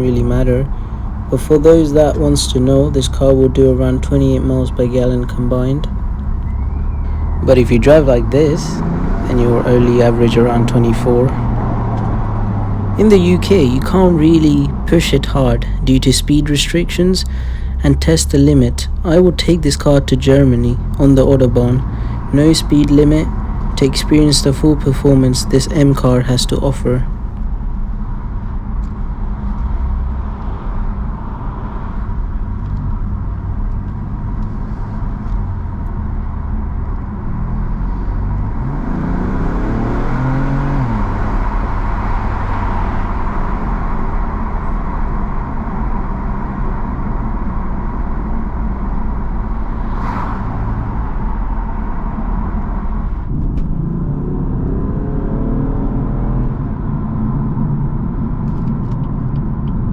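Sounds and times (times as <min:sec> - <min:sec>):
car engine revving: 0:00.0 - 0:27.4, 0:36.2 - 0:59.9
road and wind noise: 0:00.0 - 0:59.9.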